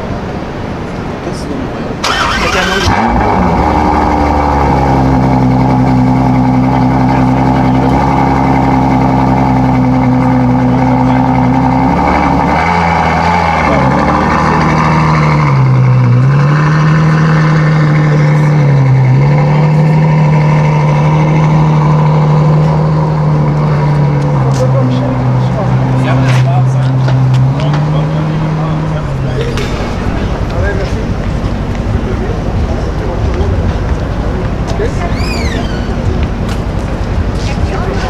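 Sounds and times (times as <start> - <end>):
sports car engine idling: 1.8 - 38.0.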